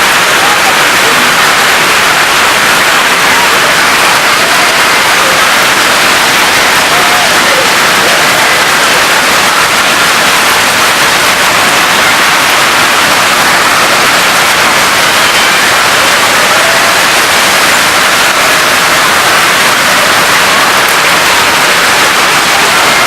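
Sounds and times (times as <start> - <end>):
hail and heavy rain: 0.0 - 23.0.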